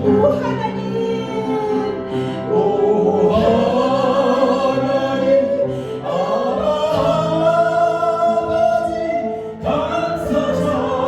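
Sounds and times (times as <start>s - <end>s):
congregation singing a hymn: 0.0s - 11.0s.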